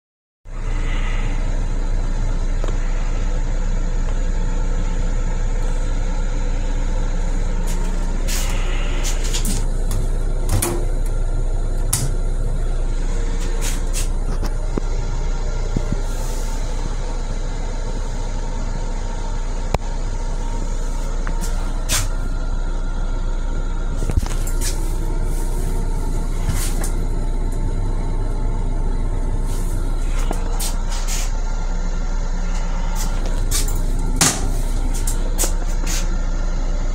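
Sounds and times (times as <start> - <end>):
deep constant hum: 0.5 - 36.9
train running rumble: 0.5 - 36.9.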